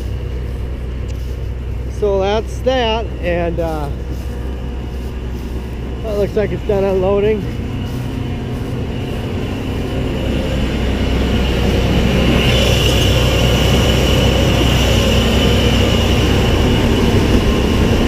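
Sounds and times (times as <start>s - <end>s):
combine harvester drone: 0.0s - 18.0s
steady high whine: 0.0s - 18.0s.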